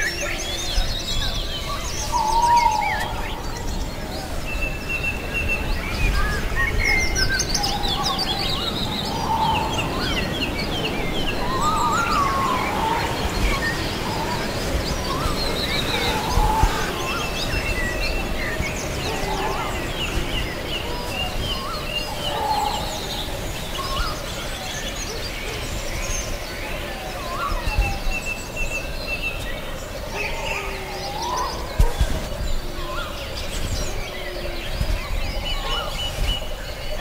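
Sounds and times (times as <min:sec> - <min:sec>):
birds chirping and trilling: 0:00.0 - 0:37.0
low warbling bird calls: 0:00.0 - 0:37.0.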